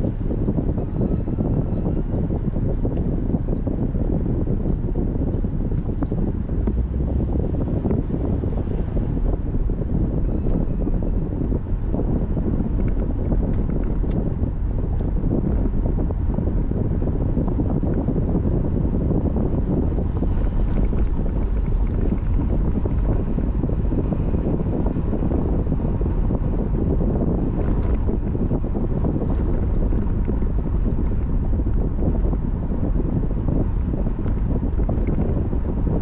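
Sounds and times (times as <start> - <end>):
car road noise rumble: 0.0 - 36.0
wind buffeting microphone: 0.0 - 36.0.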